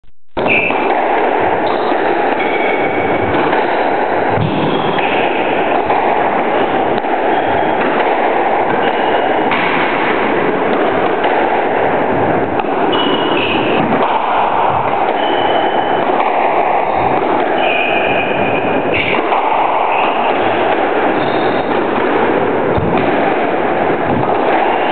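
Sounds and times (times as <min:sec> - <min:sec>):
squash ball thuds: 0:00.5 - 0:24.9.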